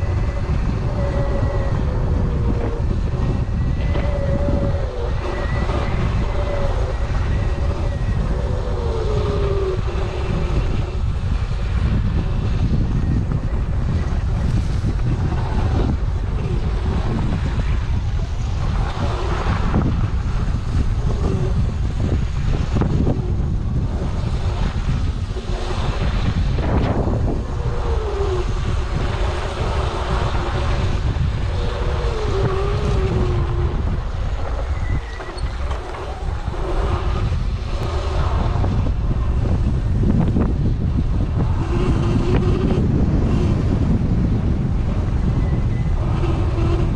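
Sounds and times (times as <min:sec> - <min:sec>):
electric motor whine: 0:00.0 - 0:44.2
trail noise: 0:00.0 - 0:46.9
wind buffeting microphone: 0:00.0 - 0:46.9.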